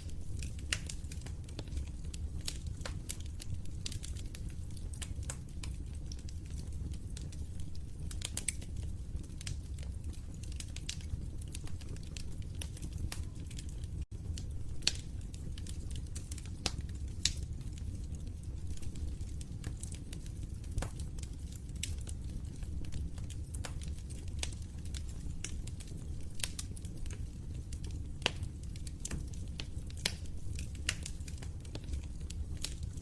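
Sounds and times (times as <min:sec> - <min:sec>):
fire crackling and popping: 0:00.0 - 0:33.0
low rumble of burning: 0:00.0 - 0:33.0.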